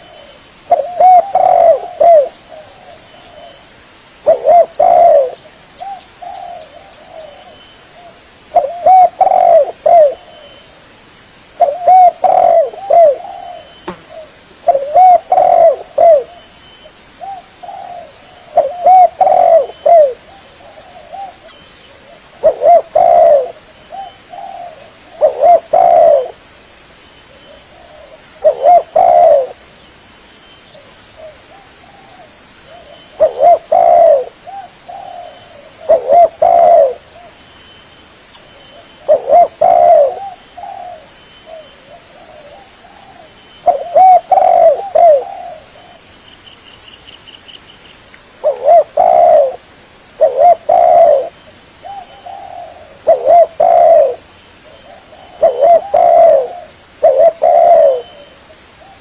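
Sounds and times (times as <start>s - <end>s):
dove cooing: 0.0s - 3.6s, 4.2s - 10.6s, 11.6s - 16.5s, 17.2s - 26.4s, 27.4s - 29.6s, 30.8s - 37.4s, 38.7s - 46.1s, 48.4s - 49.6s, 50.2s - 59.0s.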